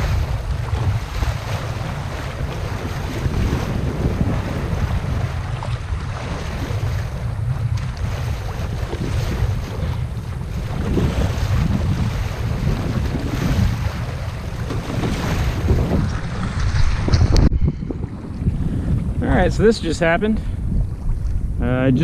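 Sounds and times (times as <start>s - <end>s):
water splashing against hull: 0.0s - 22.0s
wind buffeting microphone: 0.0s - 22.0s.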